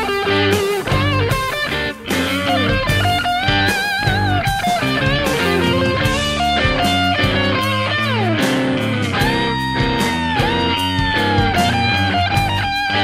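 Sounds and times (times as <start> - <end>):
band backing with beat and bass: 0.0 - 13.0
electric guitar blues lead: 0.0 - 13.0.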